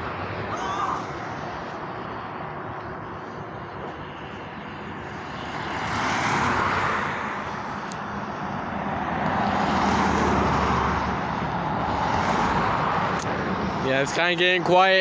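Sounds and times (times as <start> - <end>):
vehicles passing on highway: 0.0 - 15.0.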